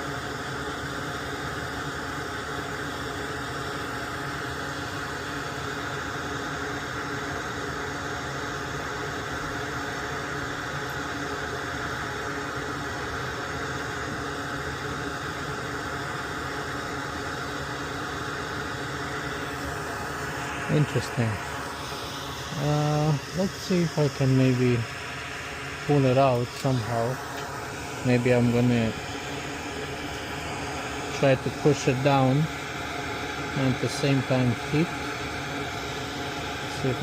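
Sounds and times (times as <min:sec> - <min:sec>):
blower motor whooshing: 0:03.6 - 0:37.0.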